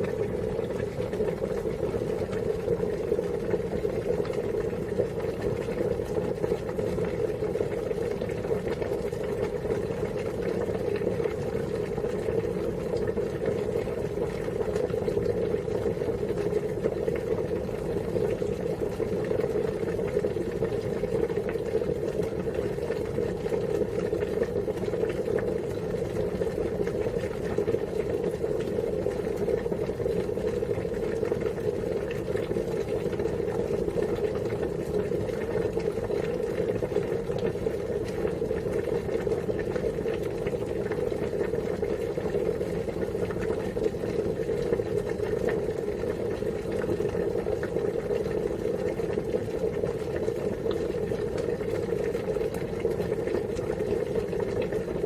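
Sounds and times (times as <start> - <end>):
water boiling: 0.0 - 55.0.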